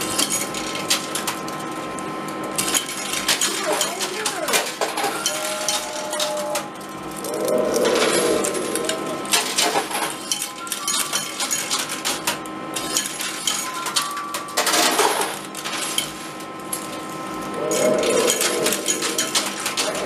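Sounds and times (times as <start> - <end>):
coins clinking and clattering: 2.6 - 20.0
arcade noise: 2.7 - 20.0.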